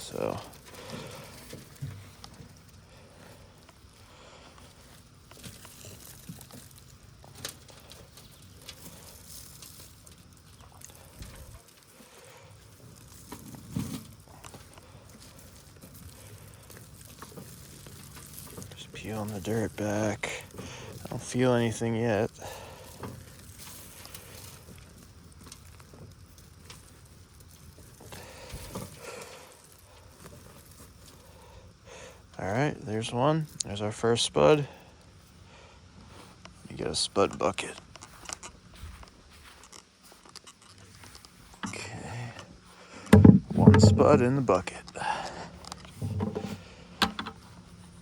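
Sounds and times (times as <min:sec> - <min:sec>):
dirt scraping: 0:00.0 - 0:48.0
soil rustling: 0:00.0 - 0:48.0.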